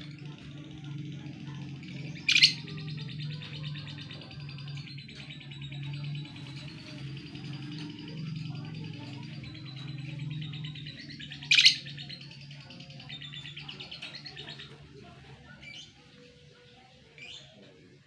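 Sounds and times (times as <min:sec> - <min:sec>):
steady low hum: 0:00.0 - 0:16.9
birds chirping rapidly: 0:00.0 - 0:18.0.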